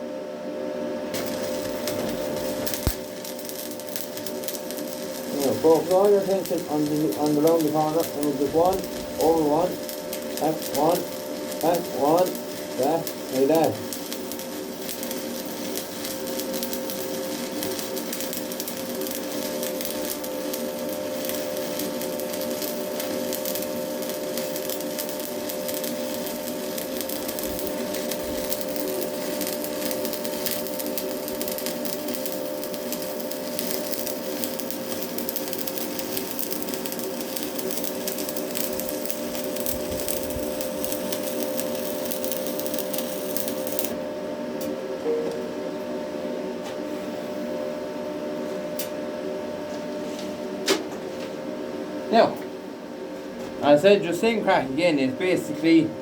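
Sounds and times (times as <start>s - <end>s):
welding arc crackle: 1.1s - 44.8s, 53.6s - 55.9s
constant hum: 1.1s - 56.0s.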